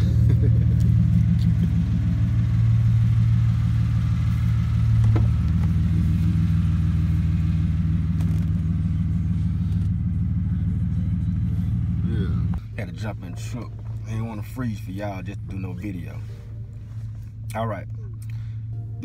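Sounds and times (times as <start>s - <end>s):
pickup engine idling: 0.0s - 19.0s.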